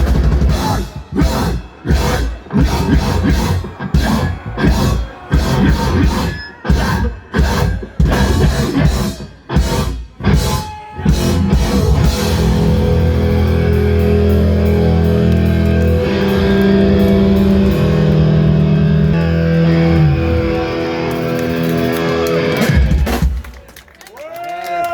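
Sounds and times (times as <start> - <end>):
rock music with guitar: 0.0 - 23.2.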